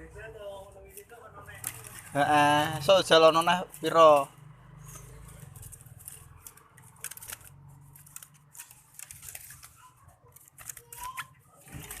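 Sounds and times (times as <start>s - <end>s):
handling clicks and rustling: 0.9s - 2.4s, 3.2s - 12.0s.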